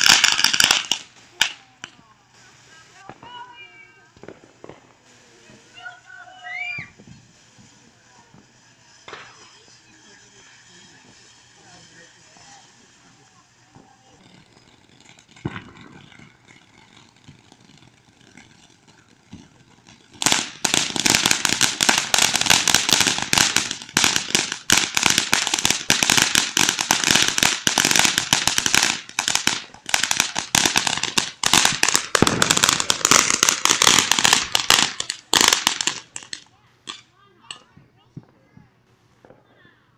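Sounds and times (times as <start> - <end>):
firecrackers popping: 0.0 - 39.9.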